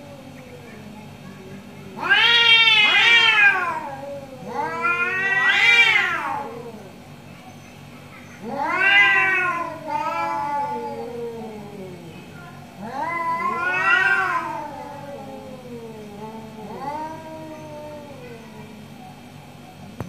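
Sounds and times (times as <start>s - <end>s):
cats yowling: 0.0s - 19.0s.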